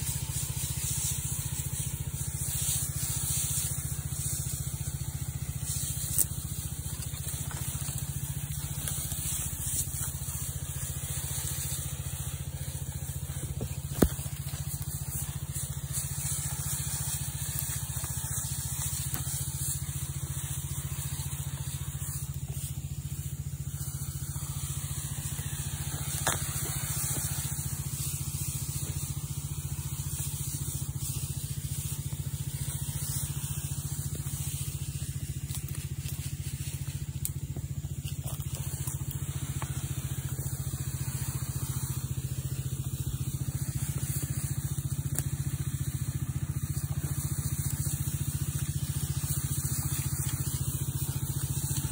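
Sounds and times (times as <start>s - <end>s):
small petrol engine running: 0.0s - 51.9s.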